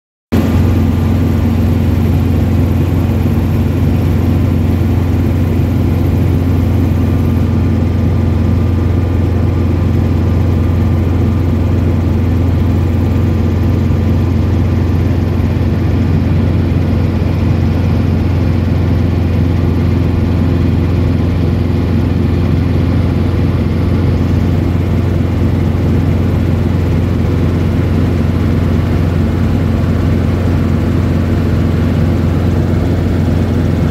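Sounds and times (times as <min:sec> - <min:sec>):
helicopter engine and rotor drone: 0:00.3 - 0:33.9.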